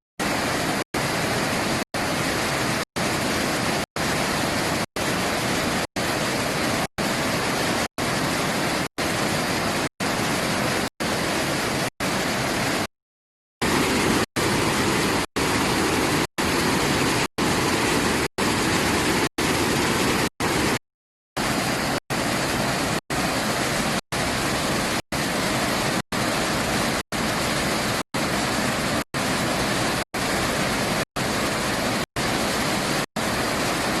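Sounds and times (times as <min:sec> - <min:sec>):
waterfall rushing: 0:00.2 - 0:12.9, 0:13.6 - 0:20.8, 0:21.4 - 0:34.0.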